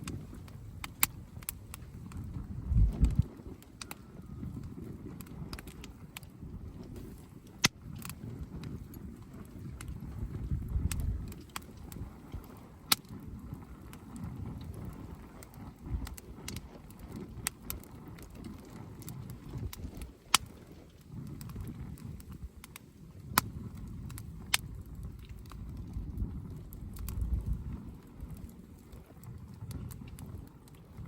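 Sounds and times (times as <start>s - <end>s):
campfire crackling: 0.0s - 31.0s
low uneven rumble: 0.0s - 31.0s.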